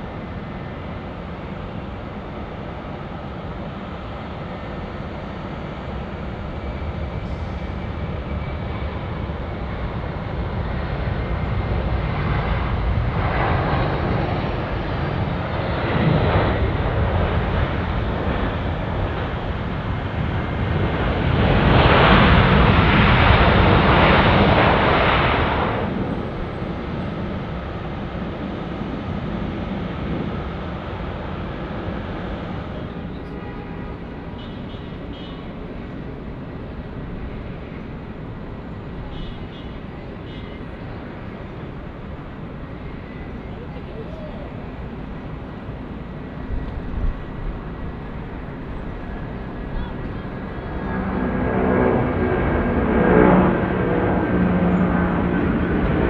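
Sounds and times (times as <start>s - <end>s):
jet aircraft passing by: 0.0s - 56.0s.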